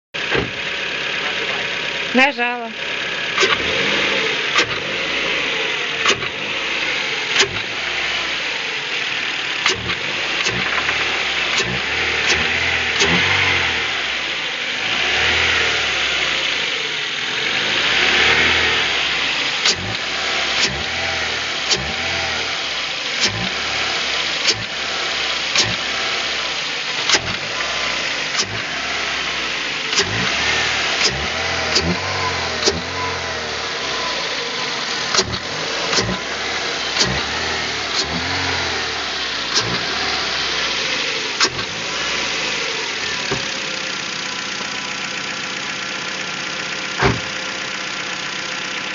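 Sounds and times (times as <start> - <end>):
car engine revving: 0.2 - 48.9.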